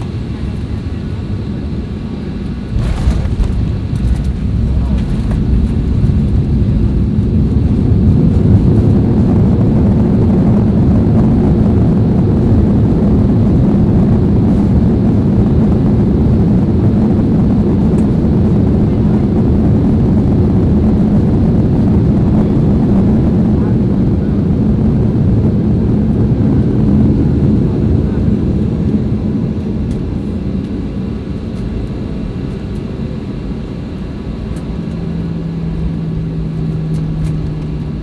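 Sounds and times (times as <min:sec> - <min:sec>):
jet engine cabin rumble: 0:00.0 - 0:38.0.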